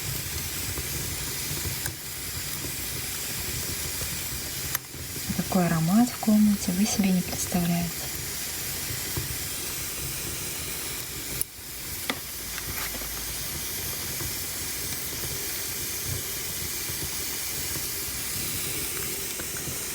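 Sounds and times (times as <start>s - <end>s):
wood fire hissing: 0.0s - 19.9s
fire popping: 0.1s - 19.9s.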